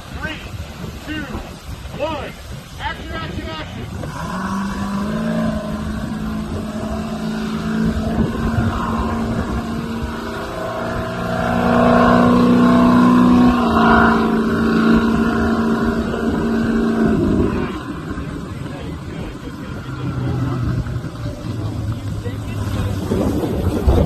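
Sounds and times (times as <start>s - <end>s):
racing engines running hard: 3.4s - 24.0s.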